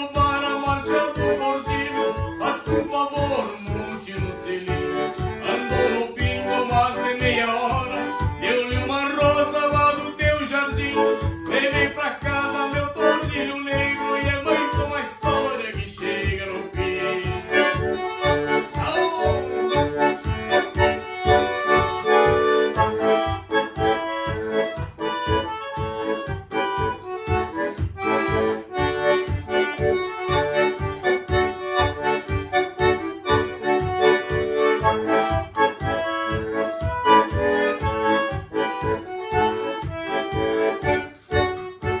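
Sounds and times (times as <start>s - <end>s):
bandoneon folk melody: 0.0s - 42.0s
steady bass beat: 0.0s - 42.0s.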